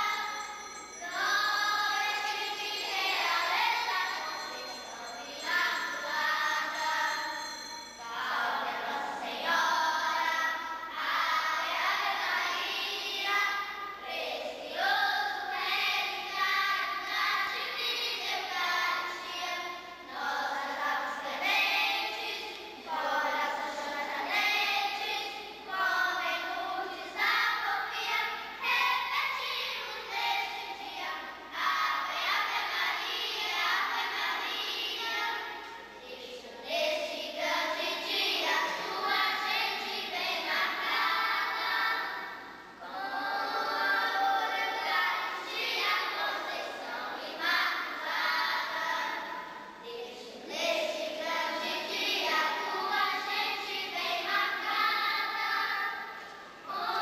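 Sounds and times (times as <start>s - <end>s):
girls singing a hymn: 0.0s - 57.0s.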